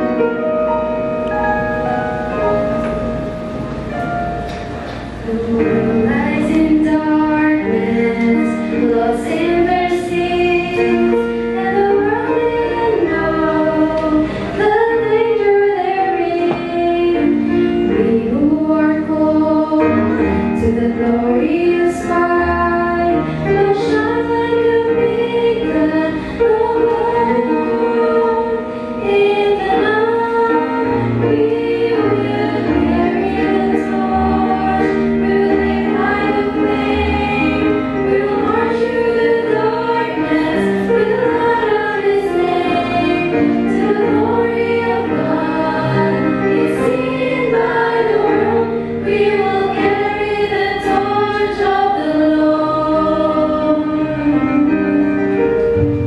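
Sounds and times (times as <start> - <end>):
musical backing: 0.0 - 56.0
women's group singing gospel: 5.3 - 54.5.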